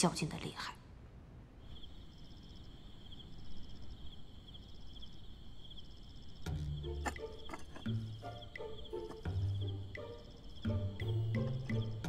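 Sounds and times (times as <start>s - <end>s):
crickets chirping: 1.5s - 12.0s.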